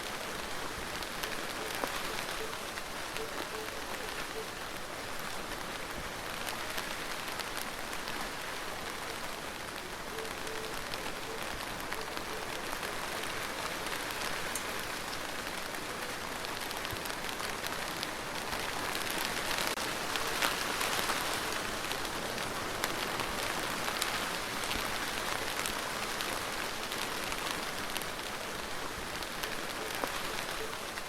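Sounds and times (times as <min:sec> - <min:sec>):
rain falling on a surface: 0:00.0 - 0:31.0.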